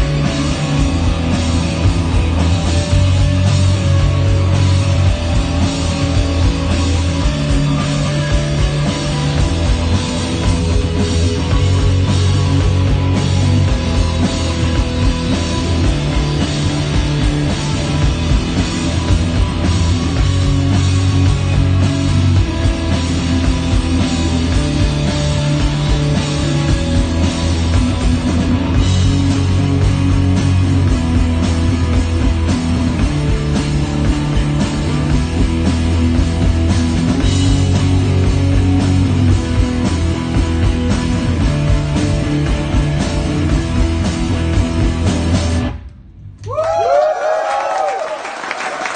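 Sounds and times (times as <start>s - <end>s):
drum kit beat: 0.0s - 45.8s
live rock band playing: 0.0s - 45.9s
electric guitar: 0.0s - 46.9s
electric bass: 0.0s - 47.1s.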